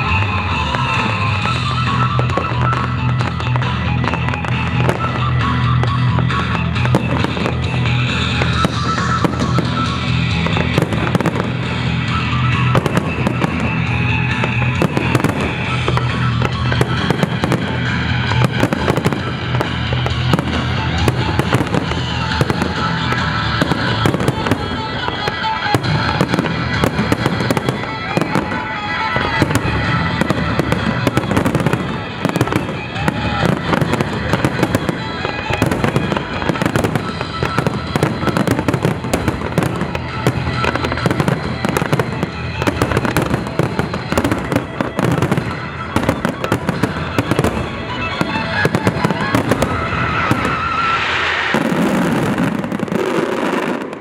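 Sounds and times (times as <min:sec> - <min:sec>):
music playing: 0:00.0 - 0:54.0.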